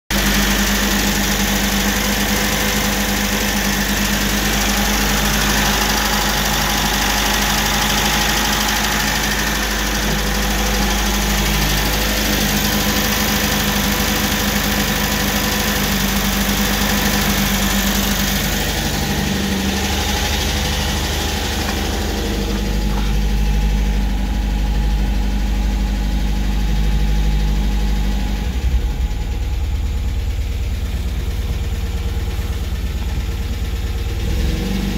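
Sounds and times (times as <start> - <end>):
car engine idling: 0.1 - 34.9
engine tapping noise: 0.1 - 34.9.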